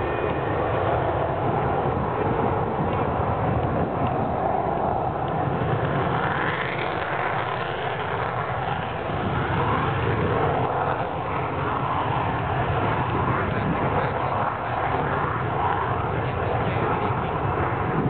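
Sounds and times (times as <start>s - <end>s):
distant jet engines rumbling: 0.0s - 18.0s
faint rising jet whine: 0.0s - 18.0s.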